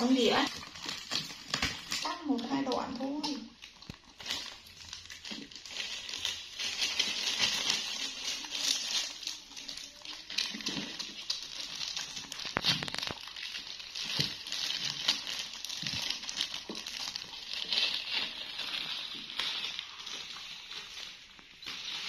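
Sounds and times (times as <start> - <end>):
plastic gloves crinkling: 0.0 - 22.0.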